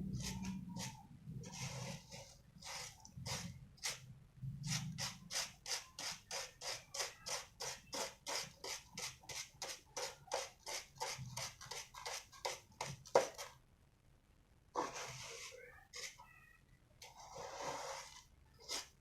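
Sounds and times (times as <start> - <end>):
kitten scratching in litter: 0.1 - 4.0, 4.6 - 13.5, 14.8 - 16.2, 17.0 - 19.0.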